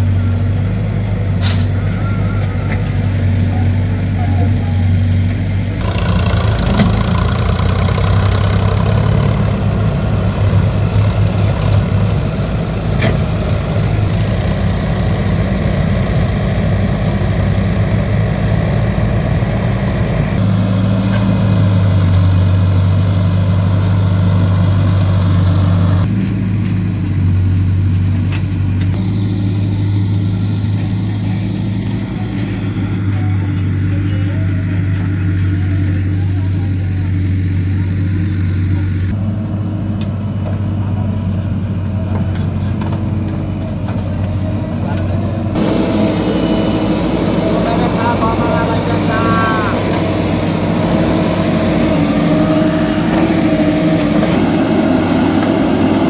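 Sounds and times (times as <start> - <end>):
diesel engines humming: 0.0 - 56.0.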